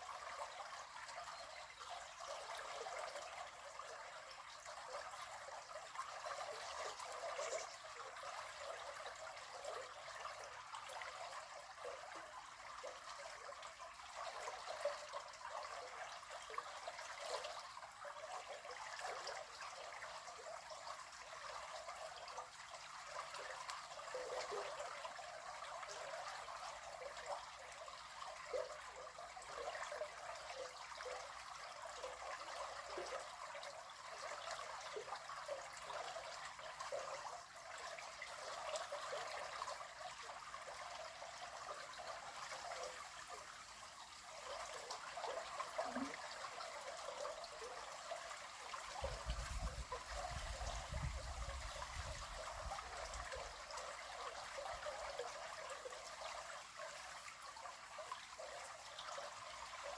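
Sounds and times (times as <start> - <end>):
river water babbling: 0.0 - 59.9
small water splashes: 0.0 - 59.9.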